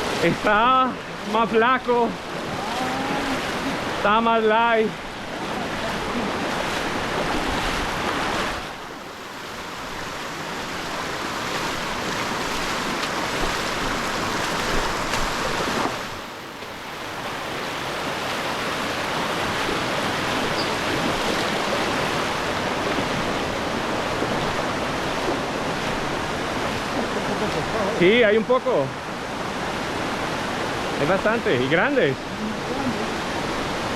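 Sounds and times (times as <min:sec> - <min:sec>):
river water flowing: 0:00.0 - 0:33.9.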